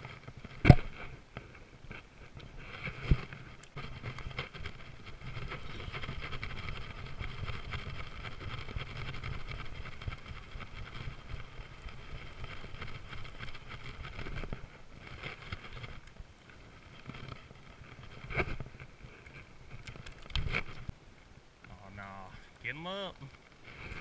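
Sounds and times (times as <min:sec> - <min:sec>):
microphone handling noise: 0:00.0 - 0:20.9
wind rumble: 0:00.0 - 0:22.3.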